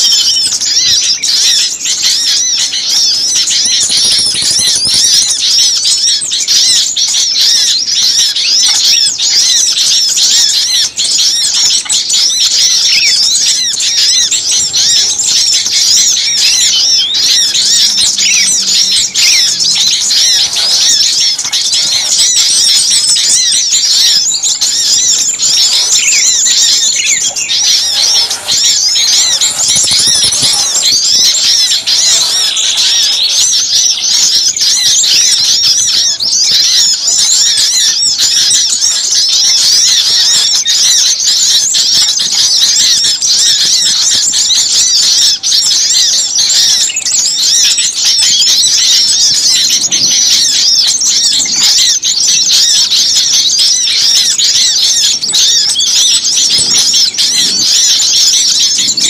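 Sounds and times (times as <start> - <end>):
small songbirds chattering: 0.0 - 59.0.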